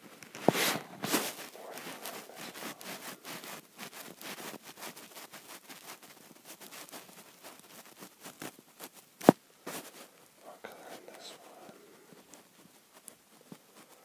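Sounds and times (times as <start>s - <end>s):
stylus scribbling: 0.5s - 9.0s, 9.7s - 14.0s.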